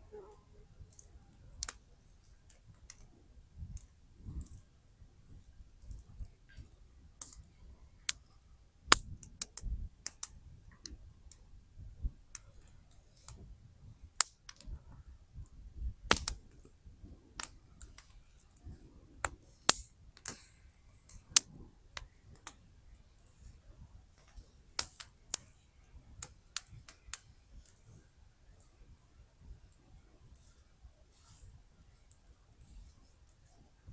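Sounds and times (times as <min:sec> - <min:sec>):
wood fire crackling: 0:00.2 - 0:33.9.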